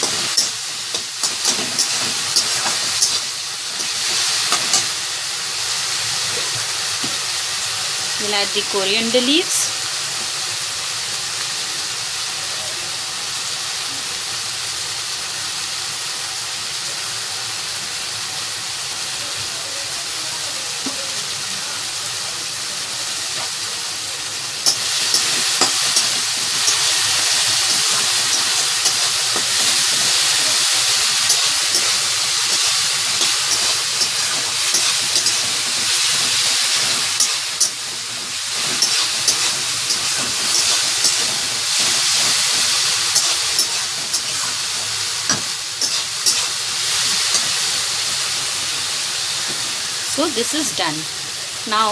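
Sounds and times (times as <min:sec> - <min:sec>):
gravy sizzling in a pan: 0:00.0 - 0:51.9.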